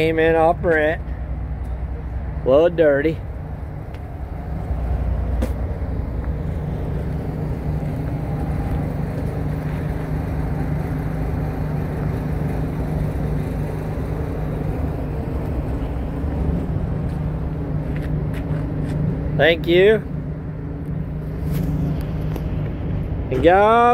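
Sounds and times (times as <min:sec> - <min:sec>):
excavator diesel engine droning: 0:01.0 - 0:23.9.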